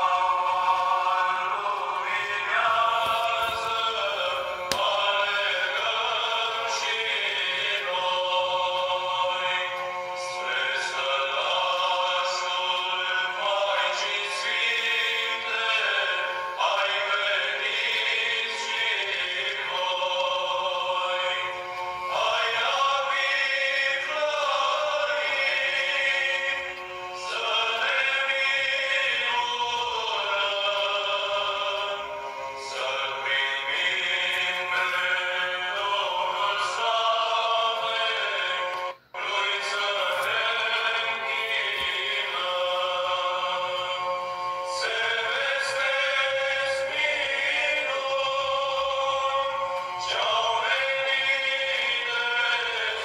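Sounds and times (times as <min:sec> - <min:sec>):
slow vocal melody: 0:00.0 - 0:53.0.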